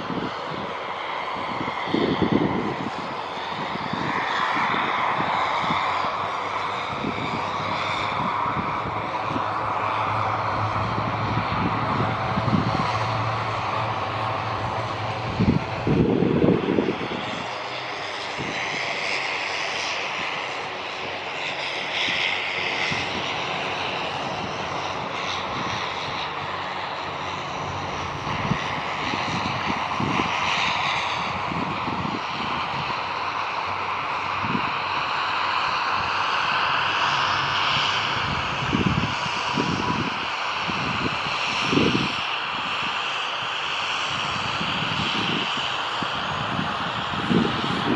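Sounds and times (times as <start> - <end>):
engine drone: 0.0 - 47.9.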